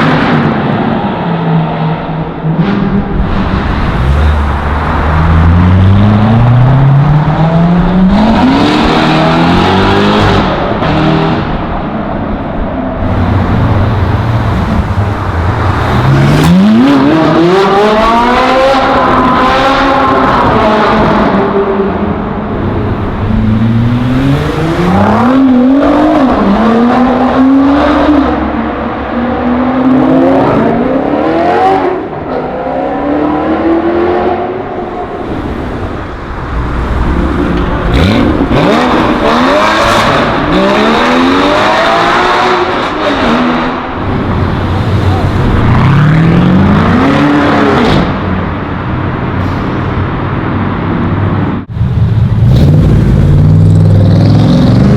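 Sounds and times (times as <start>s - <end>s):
sports car engines revving: 0.0s - 54.9s.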